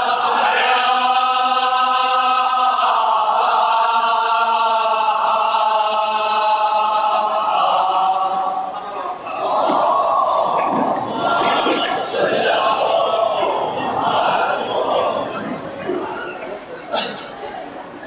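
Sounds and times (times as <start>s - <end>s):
men chanting together: 0.0s - 15.4s.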